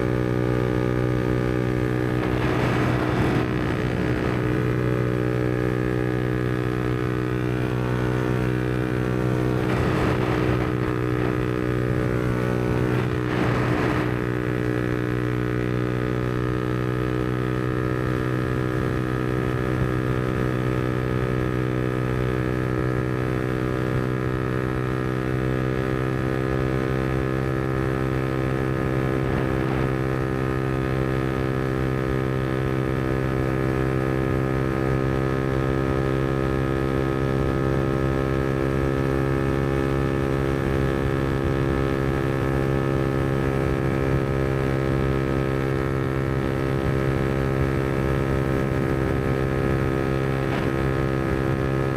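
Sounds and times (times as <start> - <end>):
motorcycle engine running steadily: 0.0 - 51.9.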